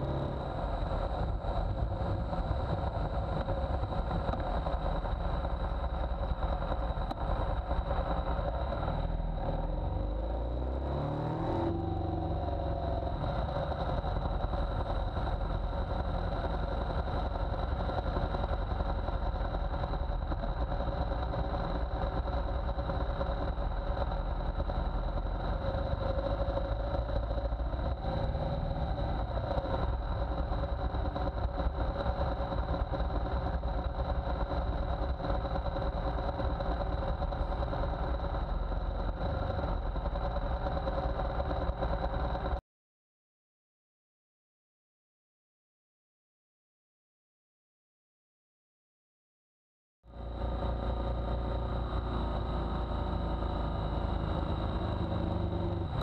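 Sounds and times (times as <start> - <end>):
motorcycle engine running: 0.0 - 42.6, 50.1 - 56.0.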